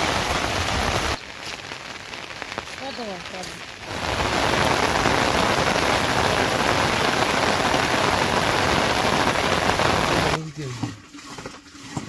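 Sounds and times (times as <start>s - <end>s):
rain falling: 0.0s - 10.4s.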